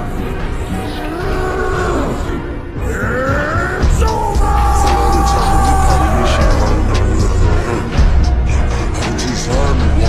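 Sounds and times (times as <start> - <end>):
music with gliding held tones: 0.0 - 10.0.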